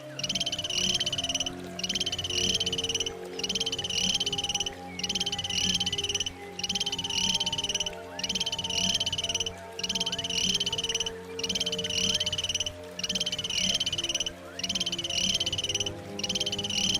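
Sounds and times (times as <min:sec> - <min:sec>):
animal buzzy trill call: 0:00.2 - 0:16.9.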